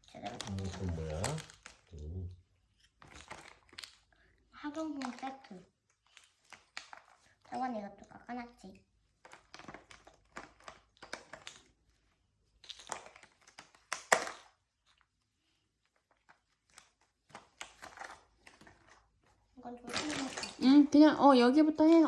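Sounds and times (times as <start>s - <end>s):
gift packaging rustling and crinkling: 0.0s - 22.0s.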